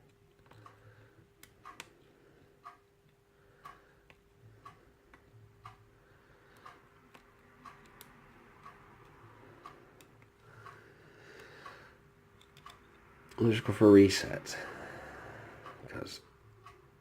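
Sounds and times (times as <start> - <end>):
faint regular ticking: 0.0 - 17.0
faint steady hum: 0.0 - 17.0.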